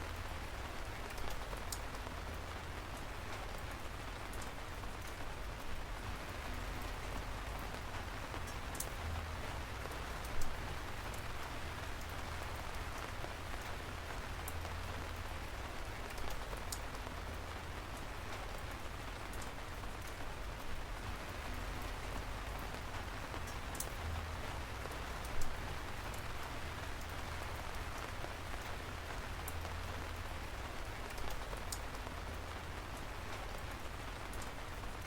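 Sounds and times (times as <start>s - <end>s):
rain falling on a surface: 0.0s - 35.0s.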